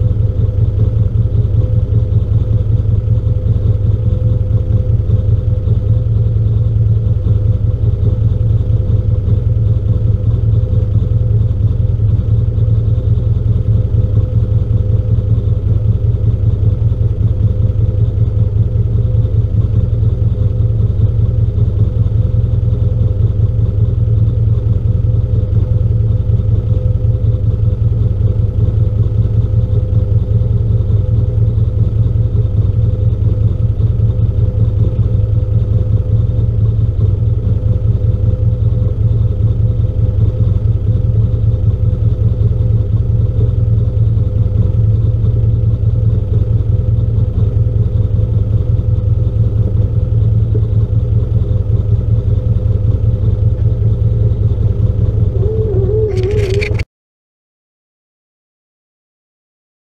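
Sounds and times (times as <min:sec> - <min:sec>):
vehicle engine idling: 0:00.0 - 0:56.8.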